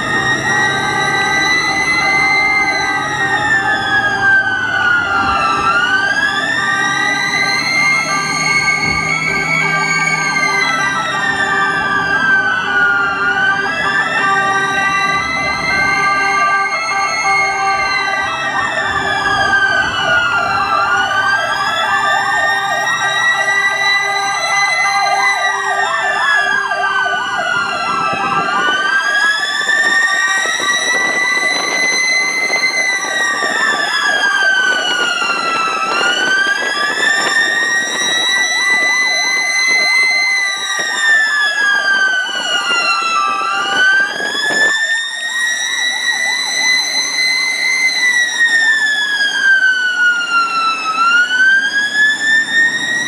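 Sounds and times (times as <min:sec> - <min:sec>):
fast warbling siren: 0:00.0 - 0:53.0
siren slow wail: 0:00.0 - 0:53.0.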